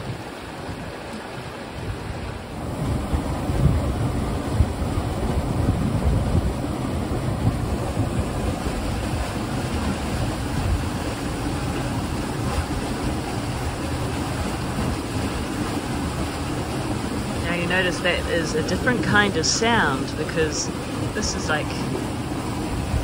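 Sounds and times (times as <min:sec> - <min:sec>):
stream water rushing over rock: 0:00.0 - 0:23.0.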